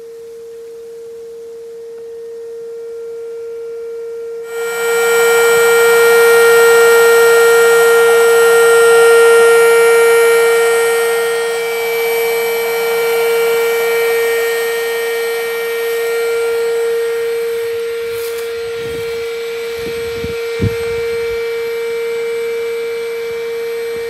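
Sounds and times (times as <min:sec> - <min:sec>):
electric pump whining: 0:04.4 - 0:24.0.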